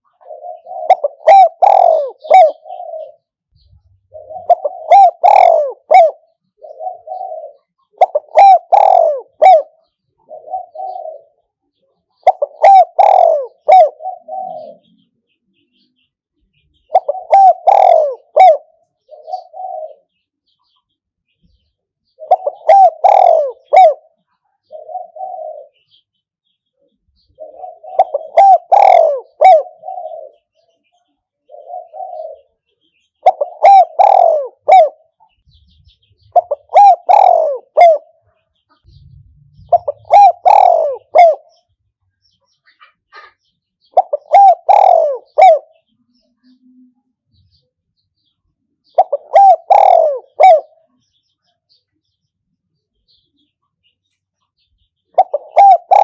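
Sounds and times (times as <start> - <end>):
dove cooing: 0.0 - 15.1, 16.5 - 20.8, 22.0 - 26.0, 27.2 - 41.8, 42.8 - 47.6, 48.8 - 51.0, 55.0 - 56.0.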